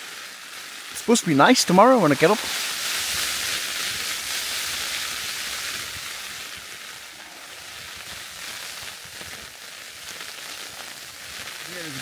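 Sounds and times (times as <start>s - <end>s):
heavy rain on tent: 0.0s - 12.0s.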